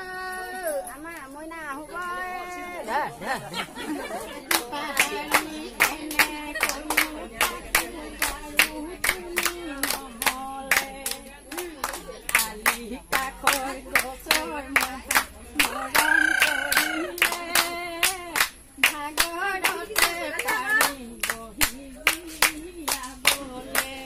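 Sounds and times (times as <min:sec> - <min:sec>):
women singing: 0:00.0 - 0:24.0
rhythmic hand clapping: 0:04.1 - 0:24.0.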